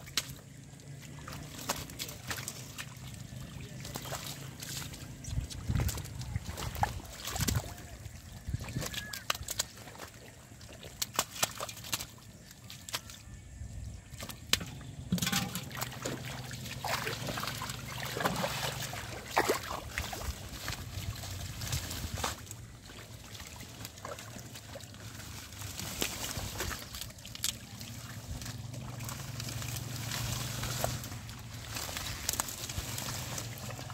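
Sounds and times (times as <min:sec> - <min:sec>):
hands sloshing in wet mud: 0:00.0 - 0:33.9.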